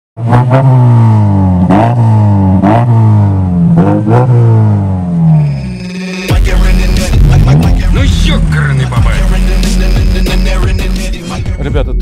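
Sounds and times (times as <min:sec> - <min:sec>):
car engine revving: 0:00.2 - 0:11.2.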